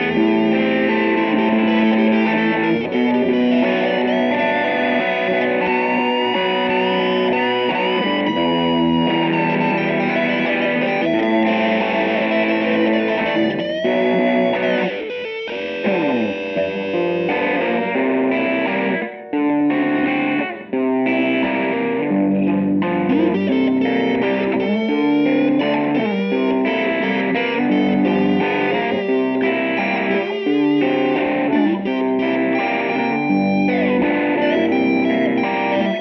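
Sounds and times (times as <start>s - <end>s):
electric guitar with effects: 0.0s - 36.0s.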